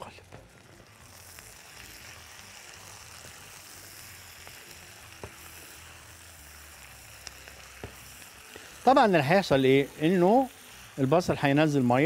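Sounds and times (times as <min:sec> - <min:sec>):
vegetables sizzling in a pot: 0:00.0 - 0:12.0
spatula stirring: 0:00.3 - 0:12.0.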